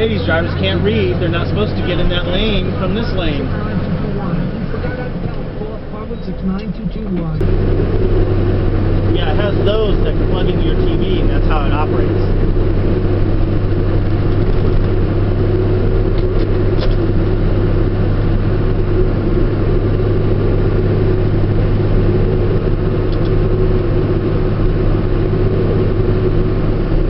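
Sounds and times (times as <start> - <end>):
truck engine and road drone: 0.0 - 27.0.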